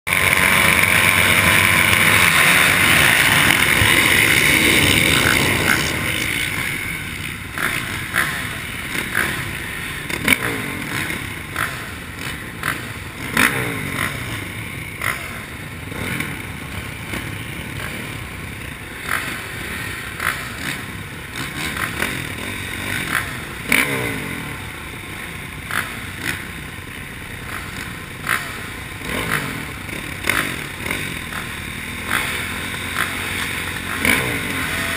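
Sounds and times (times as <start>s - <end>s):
engine blips: 0.1s - 34.9s
motocross bikes revving: 0.1s - 34.9s.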